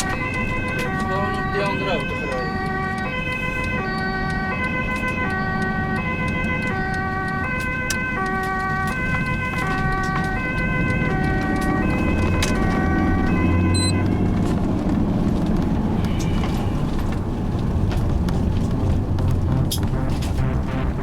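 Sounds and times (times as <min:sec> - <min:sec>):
ambulance two-tone siren: 0:00.0 - 0:16.9
engine and road noise: 0:00.0 - 0:21.0.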